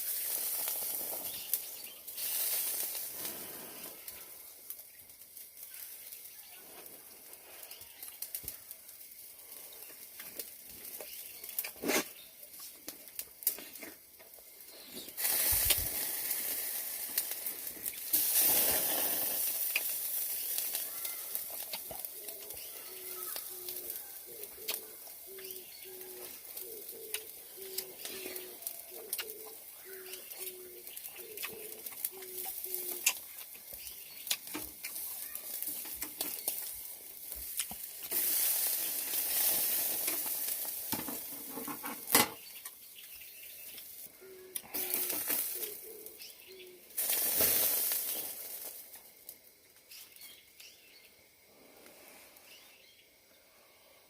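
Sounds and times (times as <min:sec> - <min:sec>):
hissing in bursts: 0:00.0 - 0:49.3.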